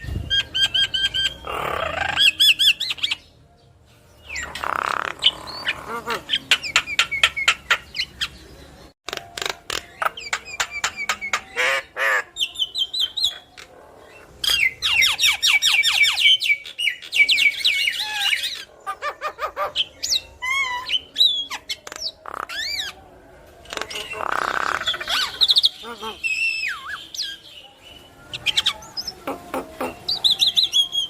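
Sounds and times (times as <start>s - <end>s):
myna bird singing: 0.0s - 31.0s.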